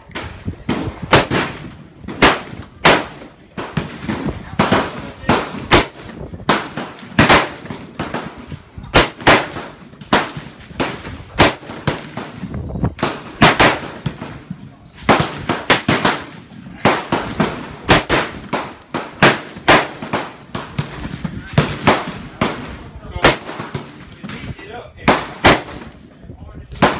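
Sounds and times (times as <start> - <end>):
rifle shots with echo: 0.0 - 26.9.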